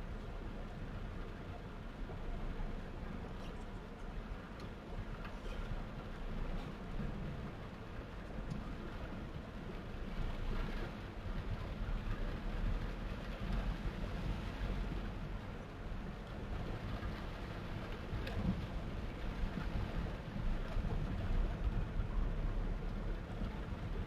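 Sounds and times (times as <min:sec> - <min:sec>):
torrential rain: 0:00.0 - 0:24.0.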